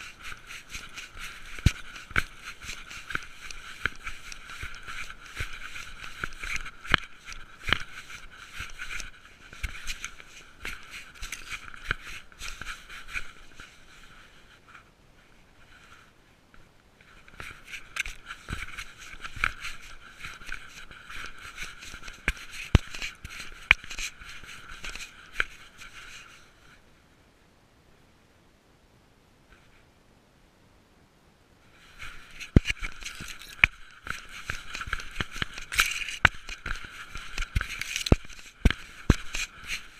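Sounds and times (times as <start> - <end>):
camera scraping against fur: 0.0 - 14.8, 17.0 - 26.7, 31.7 - 39.9.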